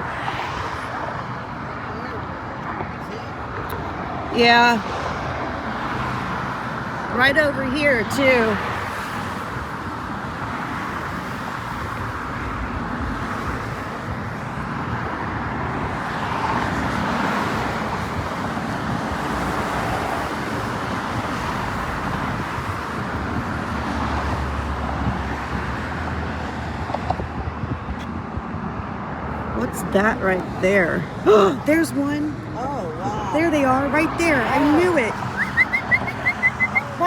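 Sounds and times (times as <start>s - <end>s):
outdoor rushing noise: 0.0s - 37.0s.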